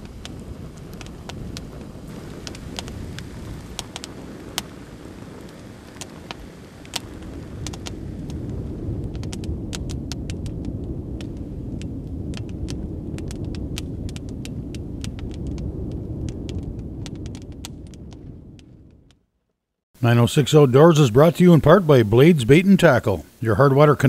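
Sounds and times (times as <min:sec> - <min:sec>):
campfire crackling and popping: 0:00.0 - 0:19.3
low rumble: 0:00.0 - 0:19.3.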